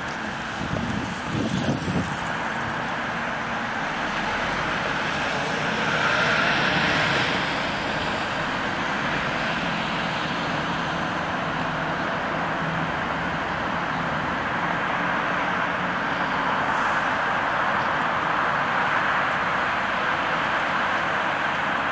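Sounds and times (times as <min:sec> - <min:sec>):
city road traffic: 0:00.0 - 0:21.9.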